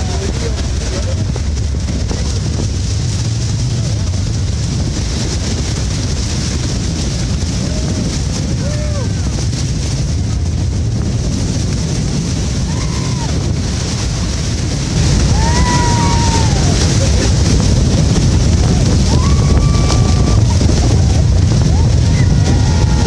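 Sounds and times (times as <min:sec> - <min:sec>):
waterfall roaring: 0:00.0 - 0:23.0
wind buffeting microphone: 0:00.0 - 0:23.0.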